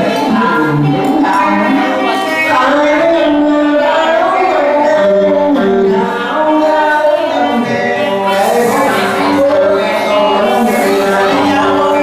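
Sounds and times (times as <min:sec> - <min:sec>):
loud music: 0:00.0 - 0:12.0
man singing into a microphone: 0:00.0 - 0:12.0.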